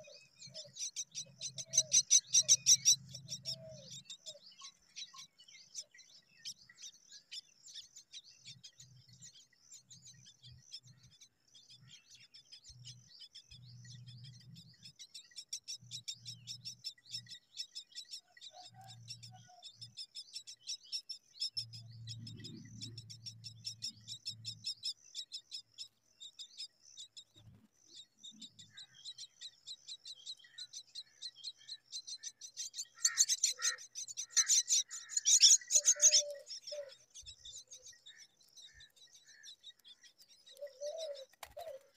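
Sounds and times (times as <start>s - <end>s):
nestlings high-pitched chirping: 0.0s - 41.9s.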